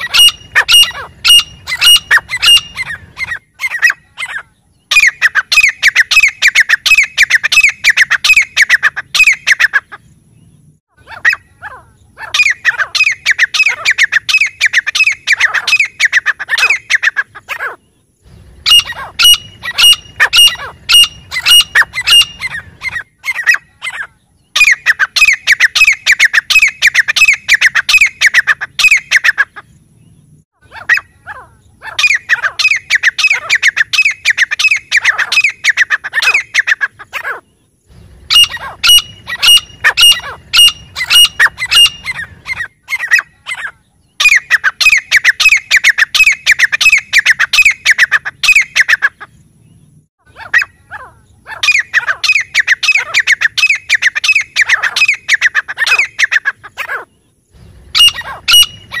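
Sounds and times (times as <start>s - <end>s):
francolins calling: 0.0s - 59.0s.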